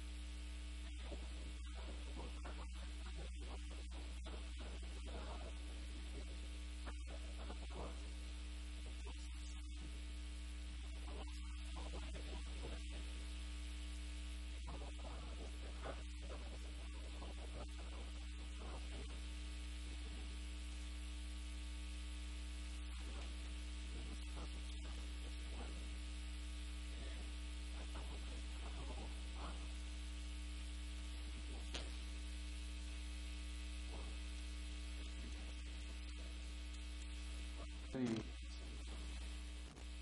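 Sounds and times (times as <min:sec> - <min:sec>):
electrical mains hum with hiss: 0:00.0 - 0:40.0.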